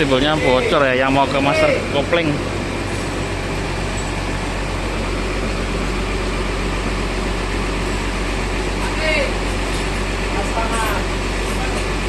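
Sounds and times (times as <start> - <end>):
bus diesel engine idling: 0.0 - 12.0.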